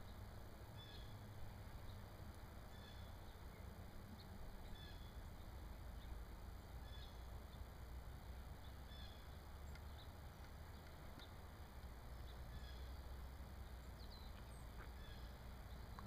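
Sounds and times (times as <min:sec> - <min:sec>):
faint low rumble: 0:00.0 - 0:16.0
songbirds chirping: 0:00.0 - 0:16.0.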